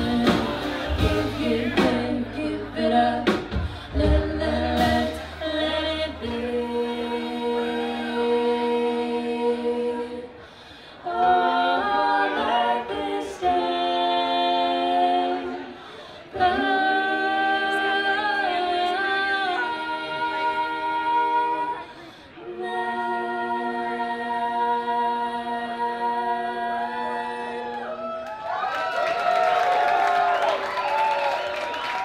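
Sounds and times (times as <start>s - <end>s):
voices singing a cappella: 0.0s - 28.0s.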